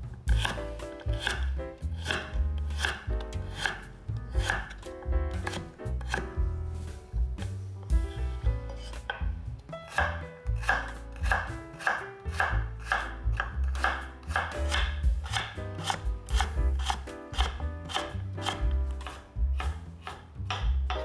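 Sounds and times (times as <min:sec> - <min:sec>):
knife chopping on cutting board: 0:00.1 - 0:21.0.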